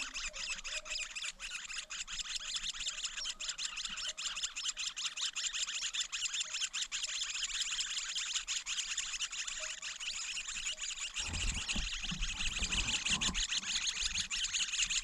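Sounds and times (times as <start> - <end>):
nestlings begging chatter: 0.0 - 15.0.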